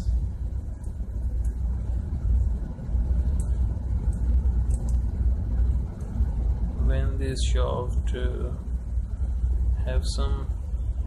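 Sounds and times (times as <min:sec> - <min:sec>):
ship machinery rumbling: 0:00.0 - 0:11.0.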